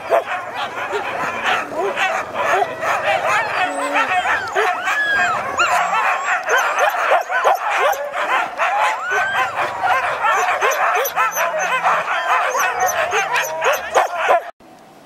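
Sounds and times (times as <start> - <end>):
huskies yipping and barking: 0.0 - 14.6.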